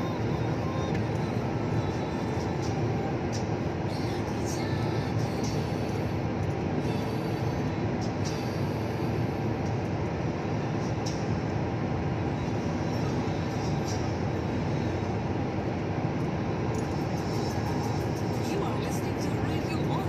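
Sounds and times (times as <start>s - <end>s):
faint constant hum: 0.0s - 20.0s
vehicle engine and tyre noise: 0.0s - 20.0s.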